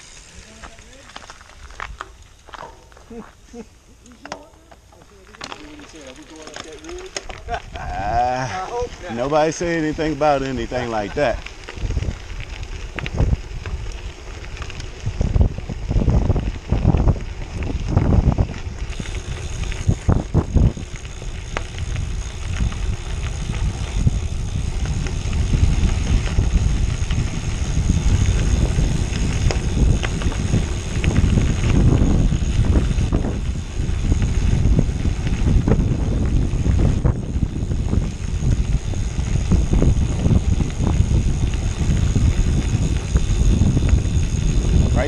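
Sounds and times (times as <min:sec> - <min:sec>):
bicycle tyres on gravel: 0:00.0 - 0:45.0
wind buffeting microphone: 0:05.3 - 0:45.0.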